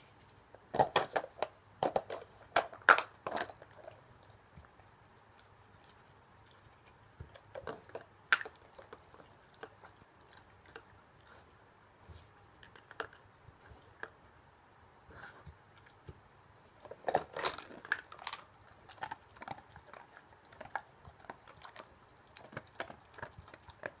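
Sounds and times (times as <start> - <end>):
dog crunching treats: 0.6 - 11.0, 12.5 - 14.2, 15.7 - 24.0.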